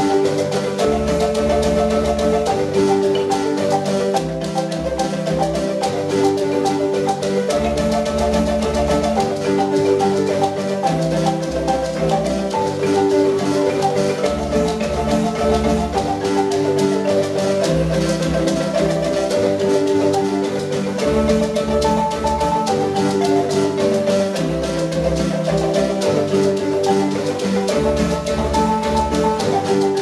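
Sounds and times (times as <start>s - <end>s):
deep bass marimba notes: 0.0s - 30.0s
marimba ensemble playing: 0.0s - 30.0s.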